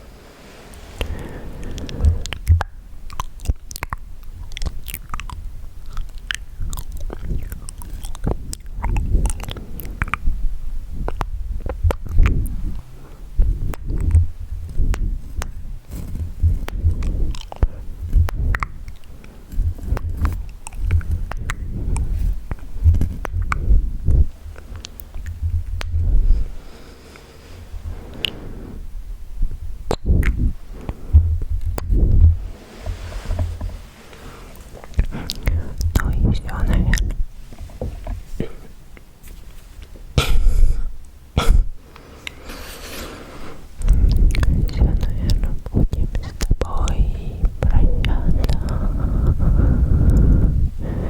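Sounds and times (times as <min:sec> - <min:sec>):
wet mouth clicks and smacks: 0:01.0 - 0:28.4, 0:29.5 - 0:32.3, 0:34.1 - 0:39.1, 0:43.7 - 0:51.0.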